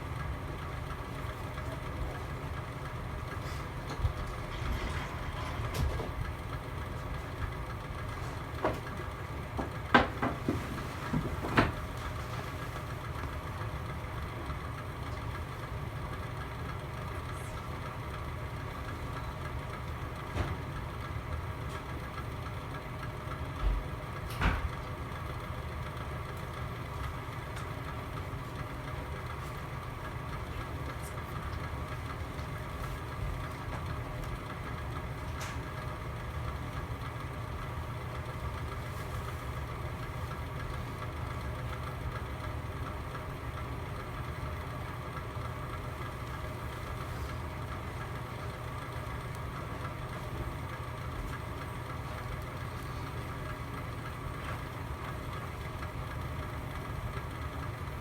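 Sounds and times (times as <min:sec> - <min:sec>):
fireplace low hum: 0:00.0 - 0:58.0.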